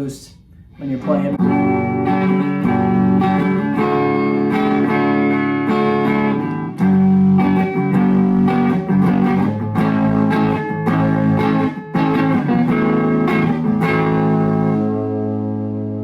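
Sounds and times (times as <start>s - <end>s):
electric guitar chords and notes: 1.0s - 16.0s.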